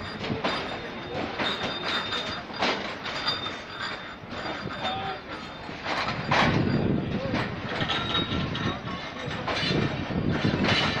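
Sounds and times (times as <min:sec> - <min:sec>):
train wheels rumbling: 0:00.0 - 0:11.0
wheels clunking over rail joints: 0:00.0 - 0:11.0.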